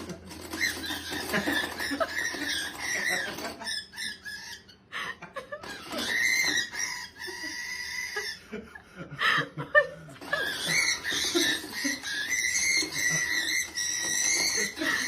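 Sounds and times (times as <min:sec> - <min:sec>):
parrot squawking: 0:00.0 - 0:04.9, 0:05.6 - 0:08.5, 0:10.2 - 0:15.0.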